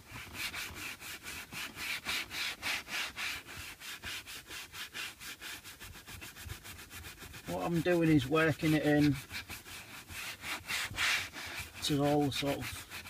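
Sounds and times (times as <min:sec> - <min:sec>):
brush scrubbing leather seat: 0:00.0 - 0:13.0.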